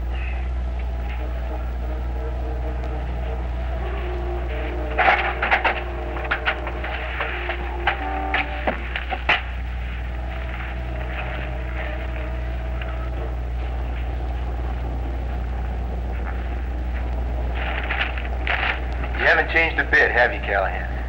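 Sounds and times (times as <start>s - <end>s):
faint held tones: 0.0s - 21.0s
low hum with hiss: 0.0s - 21.0s.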